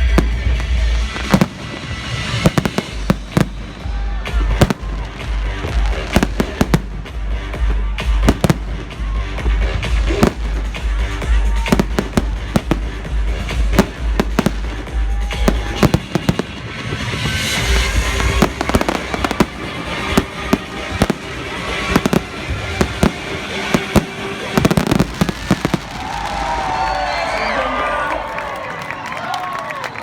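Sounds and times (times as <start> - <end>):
fireworks bangs and booms: 0.0 - 27.6
background music: 0.0 - 28.3
fireworks crackling: 0.0 - 28.6.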